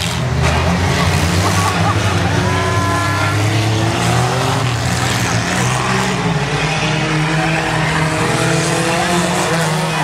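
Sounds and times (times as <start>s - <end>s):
loud car engines running: 0.0s - 10.0s.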